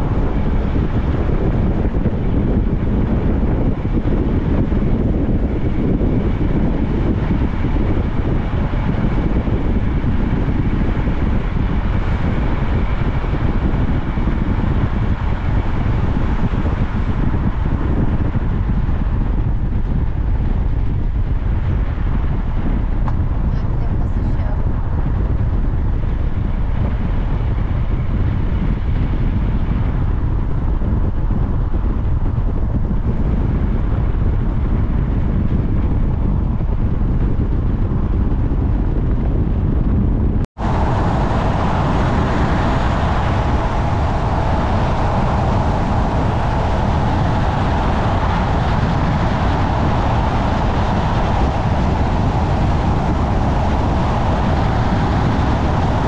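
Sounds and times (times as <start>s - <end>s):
vehicle road and engine noise: 0.0s - 56.0s.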